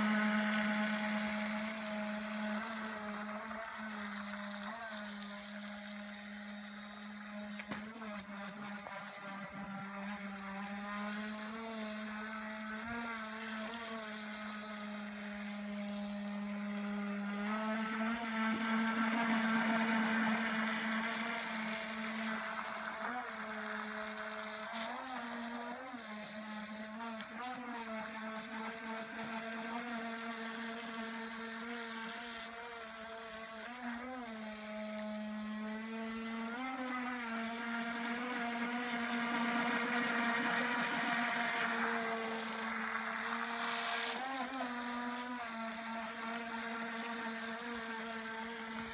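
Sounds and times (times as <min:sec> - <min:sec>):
model boat electric motor whining: 0:00.0 - 0:48.9.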